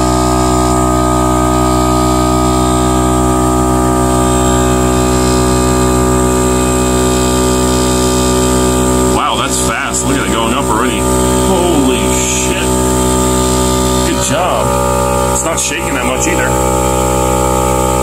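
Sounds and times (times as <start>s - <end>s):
air compressor humming: 0.0s - 18.0s.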